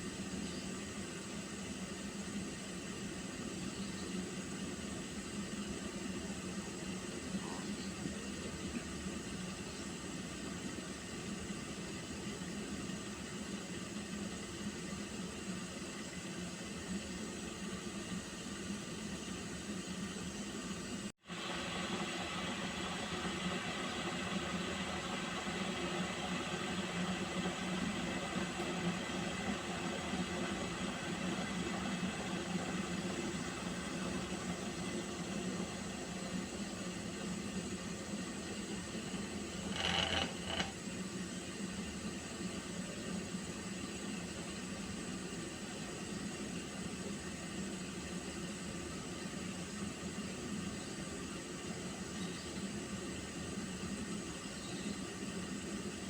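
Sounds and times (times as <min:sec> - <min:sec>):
pot of water heating on stove: 0:00.0 - 0:56.0.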